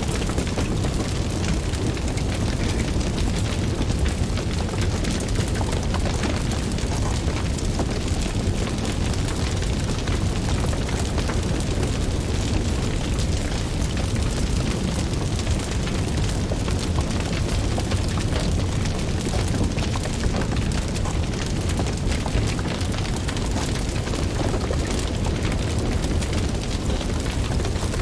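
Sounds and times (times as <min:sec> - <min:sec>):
fire crackling and popping: 0:00.0 - 0:28.0
fire flames rushing: 0:00.0 - 0:28.0.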